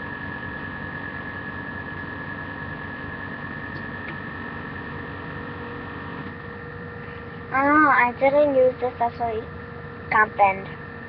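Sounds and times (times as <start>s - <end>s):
electrical hum and hiss: 0.0s - 11.0s
thin high whine: 0.0s - 11.0s.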